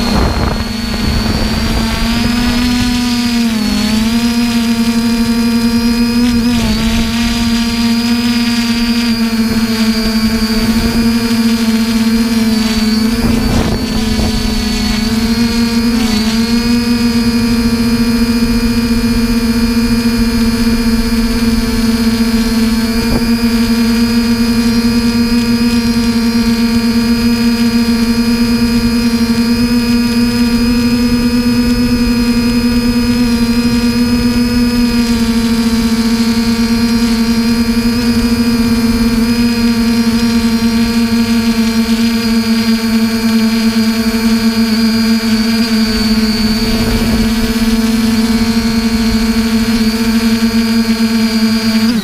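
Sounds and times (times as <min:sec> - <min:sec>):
drone motors buzzing whine: 0:00.0 - 0:52.0.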